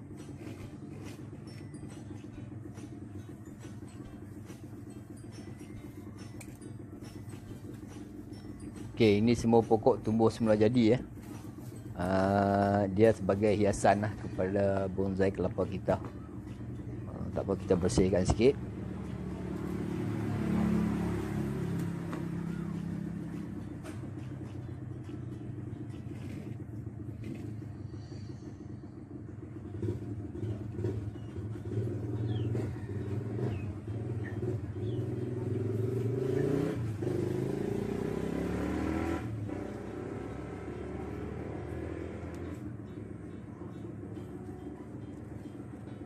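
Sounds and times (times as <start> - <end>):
vehicle engine humming: 0.0 - 46.0.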